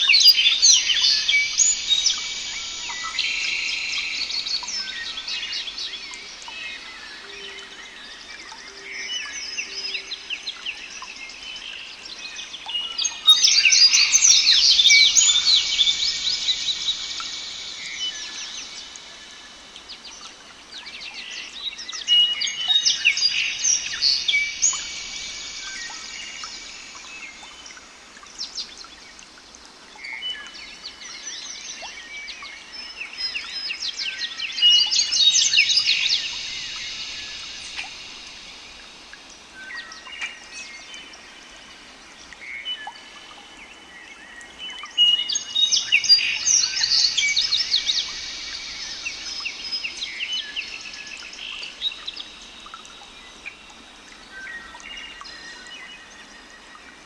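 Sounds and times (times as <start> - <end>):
songbirds chirping and trilling: 0.0 - 29.3, 29.9 - 57.0.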